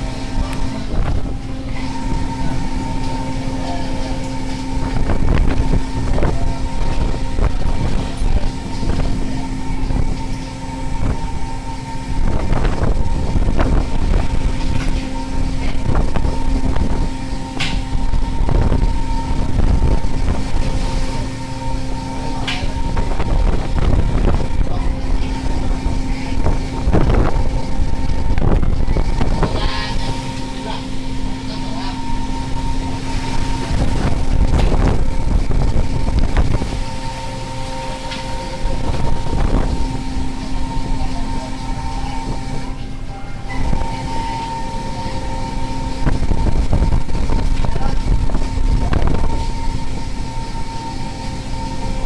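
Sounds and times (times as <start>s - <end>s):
boat machinery humming: 0.0s - 52.0s
sea noise: 0.0s - 52.0s
wind buffeting microphone: 0.0s - 52.0s.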